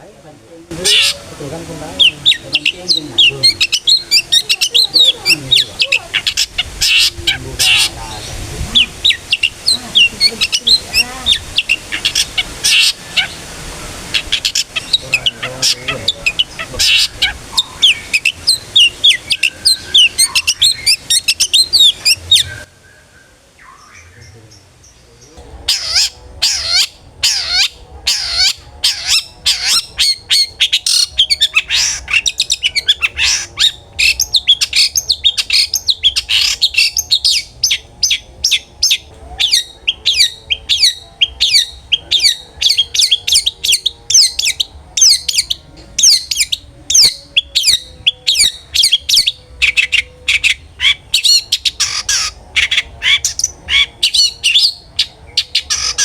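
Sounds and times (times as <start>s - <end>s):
shrike singing fast chatter: 0.7s - 22.7s, 25.4s - 56.0s.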